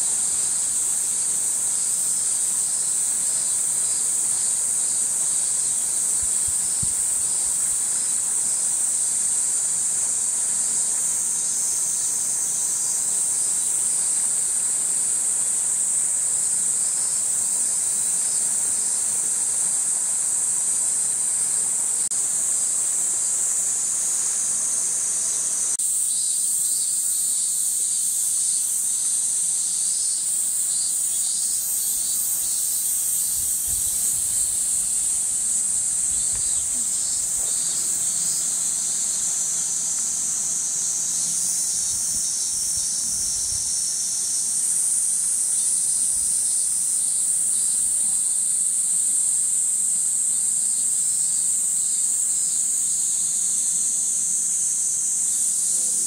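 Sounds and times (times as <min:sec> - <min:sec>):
cicadas shrilling: 0:00.0 - 0:56.0.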